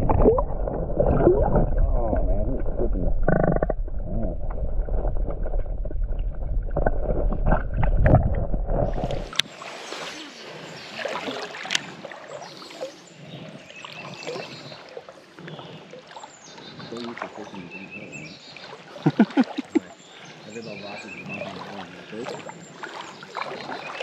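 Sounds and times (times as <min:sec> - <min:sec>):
muffled underwater sloshing: 0:00.0 - 0:24.0
water swishing and lapping: 0:00.0 - 0:24.0.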